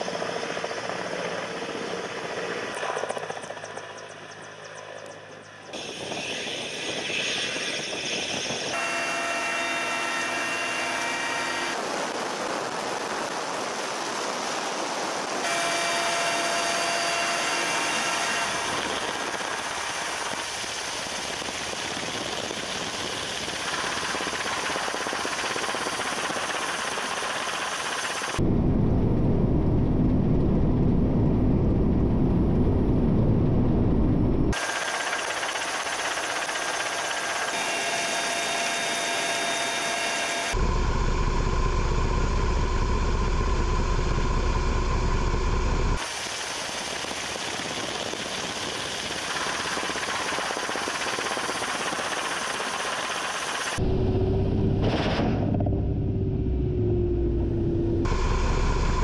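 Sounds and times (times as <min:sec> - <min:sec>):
deep helicopter rumble: 0:00.0 - 0:46.0, 0:46.7 - 0:59.0
helicopter turbine and rotor noise: 0:00.0 - 0:59.0.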